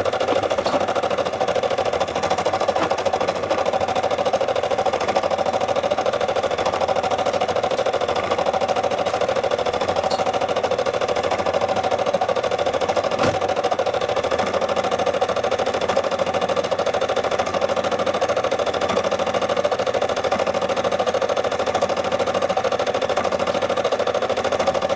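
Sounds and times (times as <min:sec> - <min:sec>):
embroidery machine stitching: 0:00.0 - 0:24.9.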